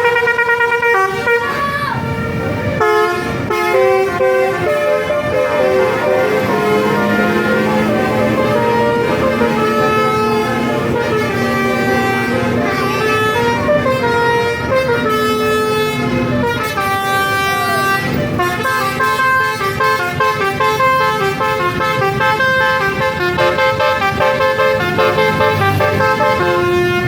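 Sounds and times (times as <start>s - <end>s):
bus horns playing melodies: 0.0s - 27.0s
low rumble of bus engines: 0.0s - 27.0s.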